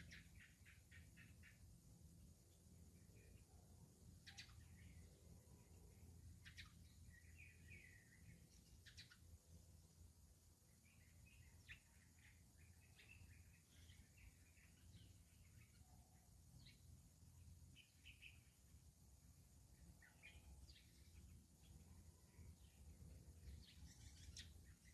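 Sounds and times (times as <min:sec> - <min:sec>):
low background hum: 0:00.0 - 0:24.9
songbird chirping: 0:00.0 - 0:24.9.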